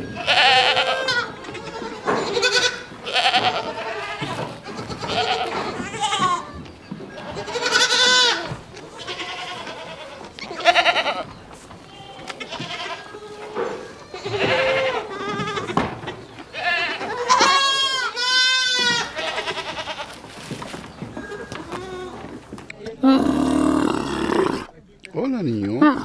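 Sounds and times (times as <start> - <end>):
goats bleating: 0.0 - 20.3, 21.2 - 24.7.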